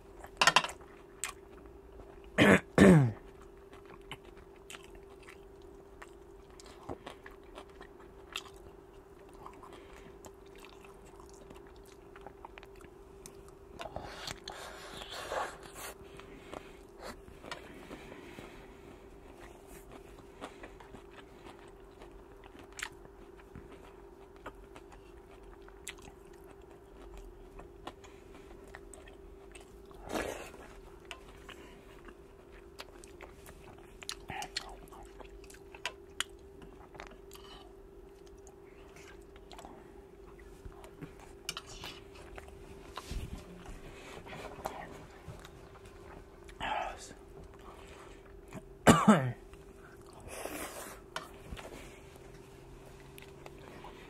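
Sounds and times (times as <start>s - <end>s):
steady low hum: 0.0s - 54.0s
person chewing with wet clicks: 0.1s - 2.4s, 3.2s - 14.6s, 16.0s - 48.8s, 49.4s - 50.3s, 51.1s - 54.0s.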